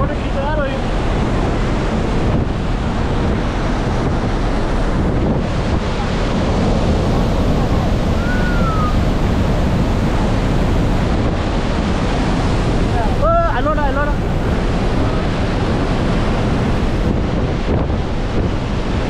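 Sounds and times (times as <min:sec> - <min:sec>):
rush of open sea: 0:00.0 - 0:19.0
wind buffeting microphone: 0:00.0 - 0:19.0.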